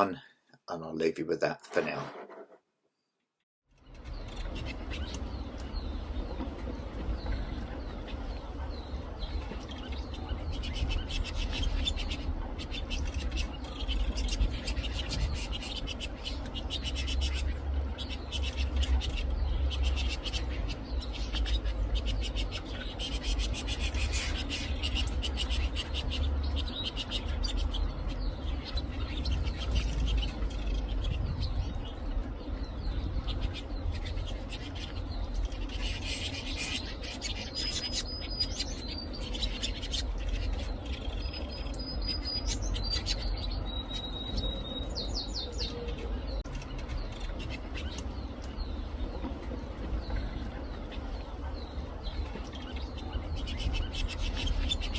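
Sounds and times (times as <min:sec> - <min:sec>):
canaries chirping and twittering: 0:03.8 - 0:54.9.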